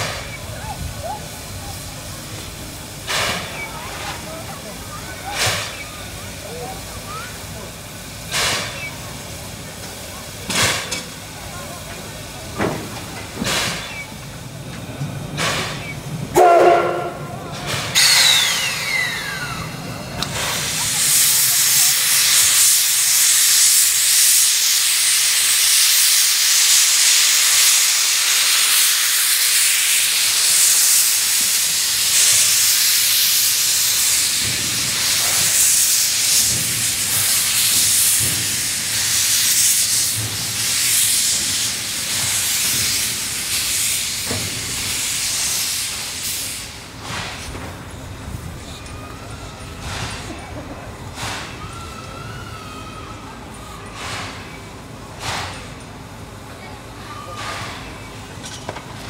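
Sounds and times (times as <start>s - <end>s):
steam locomotive venting steam: 0.0s - 59.0s.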